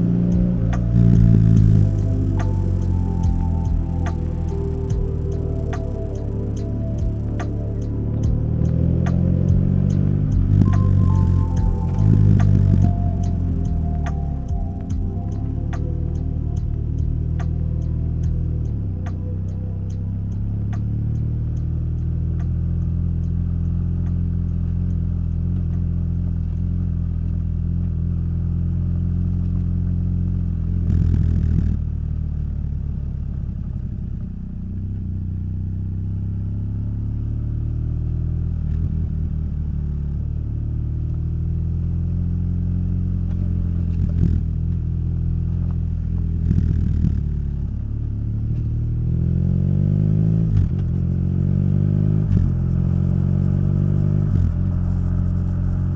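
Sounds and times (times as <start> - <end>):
motorcycle engine: 0.0 - 55.9.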